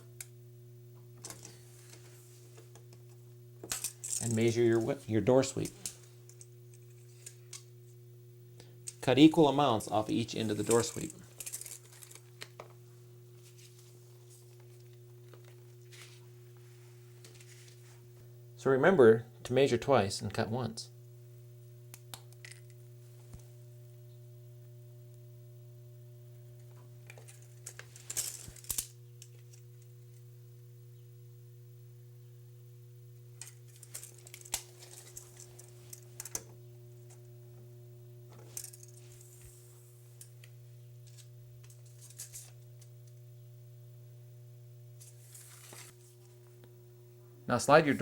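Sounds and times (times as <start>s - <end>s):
steady electrical hum: 0.0s - 48.0s.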